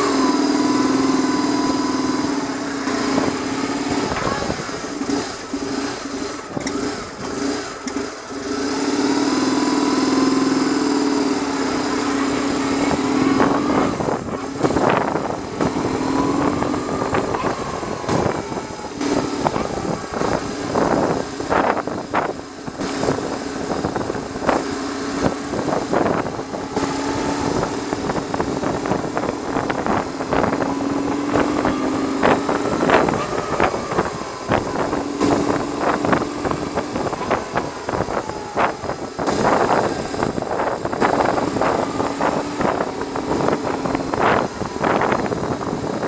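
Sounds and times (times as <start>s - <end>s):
motorcycle engine running: 0.0s - 46.0s
wind buffeting on microphone: 0.0s - 46.0s.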